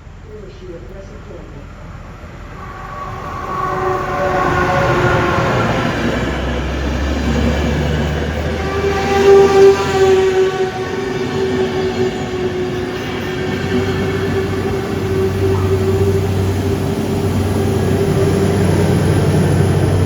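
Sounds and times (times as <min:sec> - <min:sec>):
electric locomotive whining: 0:00.0 - 0:20.0.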